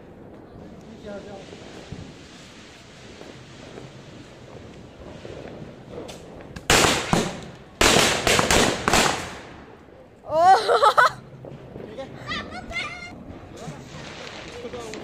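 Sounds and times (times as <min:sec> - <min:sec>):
firecrackers crackling bangs: 0:00.0 - 0:10.0, 0:11.0 - 0:15.0.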